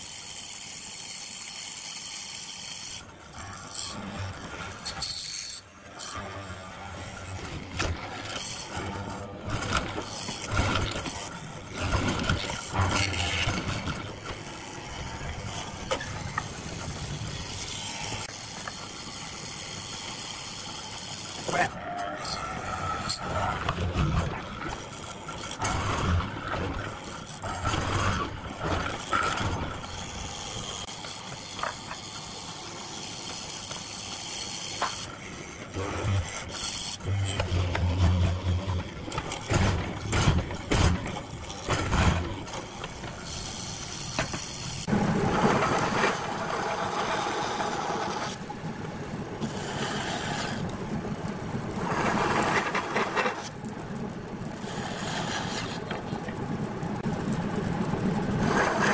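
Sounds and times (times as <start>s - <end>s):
mortising machine boring wood: 0.0s - 58.9s
bandsaw cutting wood: 2.6s - 48.4s, 54.6s - 56.0s.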